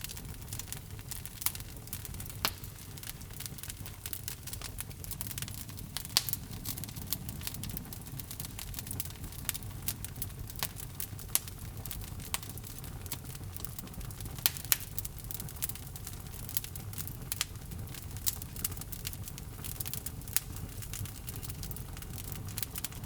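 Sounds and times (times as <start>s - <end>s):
logs crackling in fireplace: 0.0s - 23.0s.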